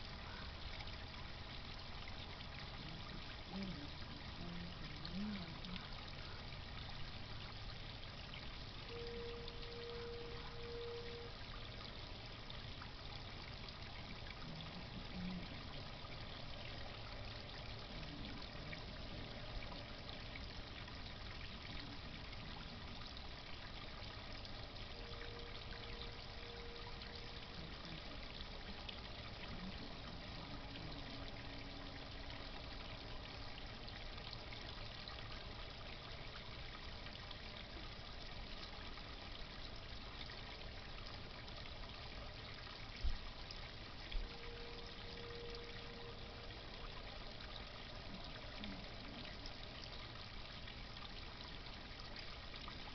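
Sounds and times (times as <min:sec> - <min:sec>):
faint pump hum: 0:00.0 - 0:52.9
water trickling and pouring: 0:00.0 - 0:52.9.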